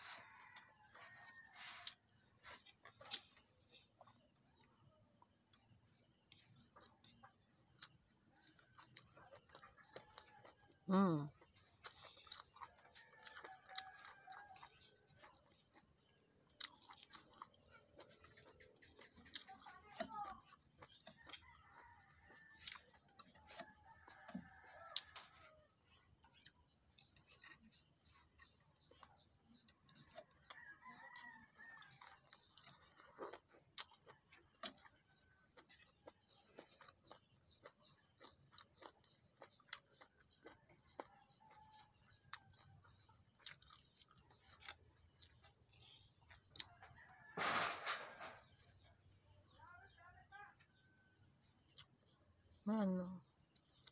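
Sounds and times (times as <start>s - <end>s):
chewing mouth clicks: 0.0s - 19.8s, 20.4s - 47.1s, 51.4s - 52.6s, 53.4s - 53.9s.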